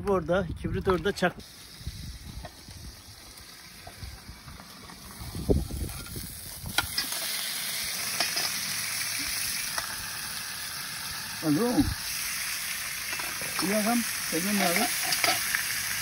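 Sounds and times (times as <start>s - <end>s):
fish sizzling in hot oil: 1.4s - 16.0s.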